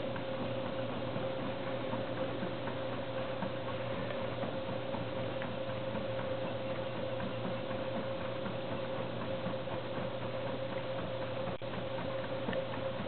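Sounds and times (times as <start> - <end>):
washer mechanical hum and whine: 0.0 - 13.0
water churning in washer drum: 0.0 - 13.0.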